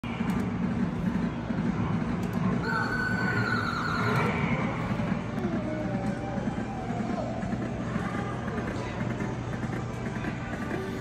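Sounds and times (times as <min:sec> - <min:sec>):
kiddie ride low rumble: 0:00.6 - 0:11.0.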